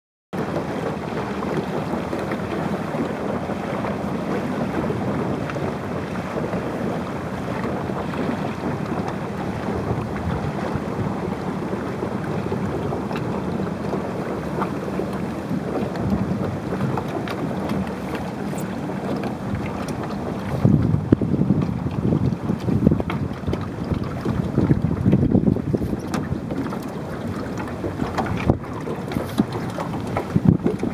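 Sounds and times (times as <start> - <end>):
water moving around boat: 0.4 - 30.9
wind noise on microphone: 0.4 - 30.9.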